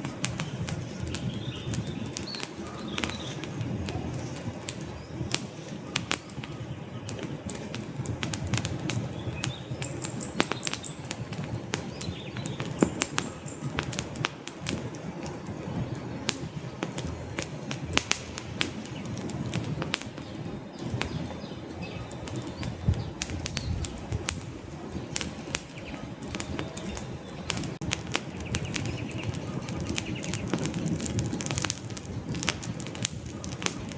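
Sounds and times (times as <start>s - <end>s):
logs crackling and popping: 0.0s - 33.9s
low rumble of flames: 0.0s - 33.9s.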